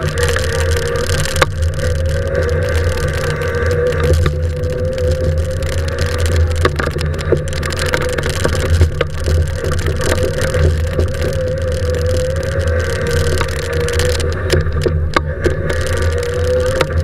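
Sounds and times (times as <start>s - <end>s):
car engine driven hard: 0.0s - 17.0s
tyres hissing on wet road: 0.0s - 17.0s.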